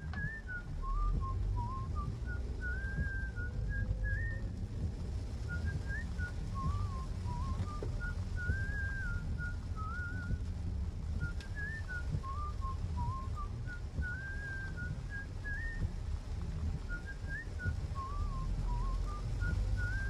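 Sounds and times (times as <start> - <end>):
person whistling a tune: 0.0 - 10.4, 11.2 - 16.1, 16.8 - 20.0
car driving rumble: 0.0 - 20.0.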